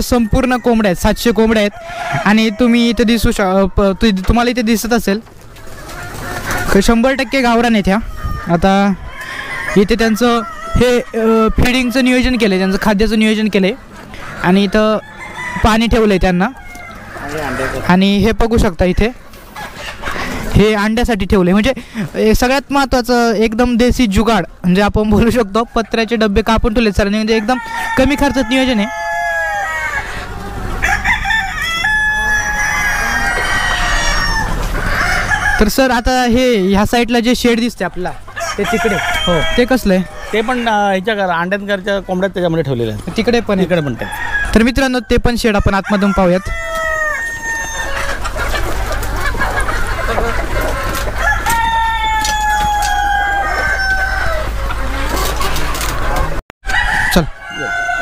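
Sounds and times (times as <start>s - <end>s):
hens clucking: 0.0s - 58.0s
roosters crowing: 0.0s - 58.0s.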